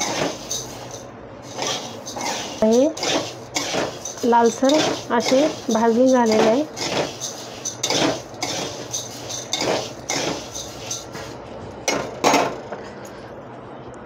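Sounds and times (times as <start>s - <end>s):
metal spatula scraping seeds in pan: 0.0s - 11.4s.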